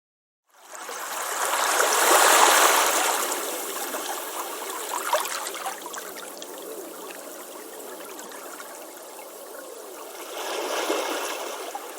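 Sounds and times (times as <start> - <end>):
surf washing onto beach: 0.7 - 11.9.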